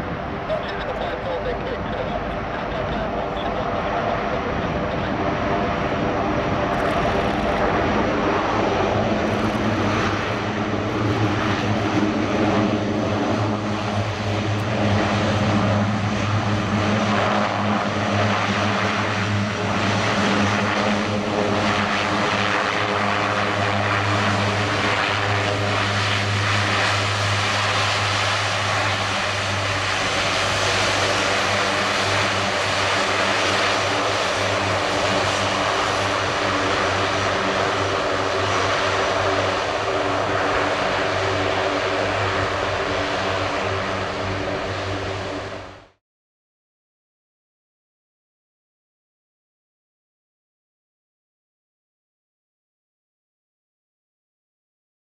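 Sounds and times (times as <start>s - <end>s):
loud propeller drone: 0.0s - 46.0s.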